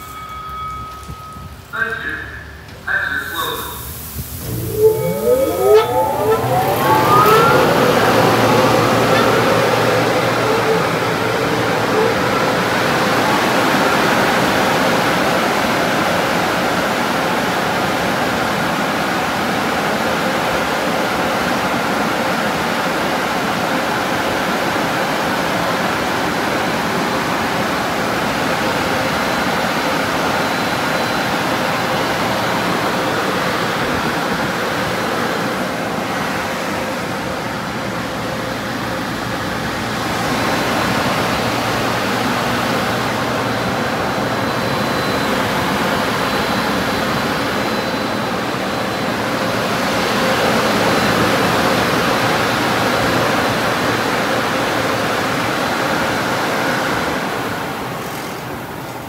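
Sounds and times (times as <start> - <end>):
car wash dryer blowers: 2.7 - 59.0.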